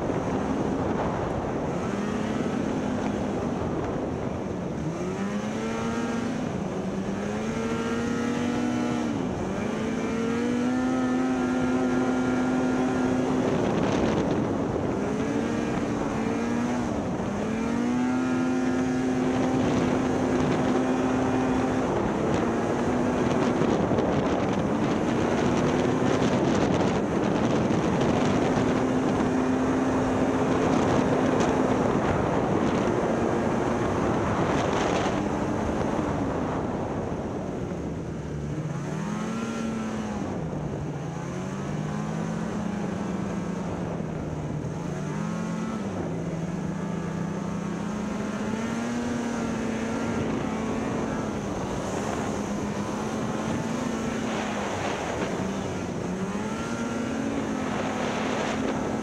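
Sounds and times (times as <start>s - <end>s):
snowmobile engine accelerating: 0.0s - 59.0s.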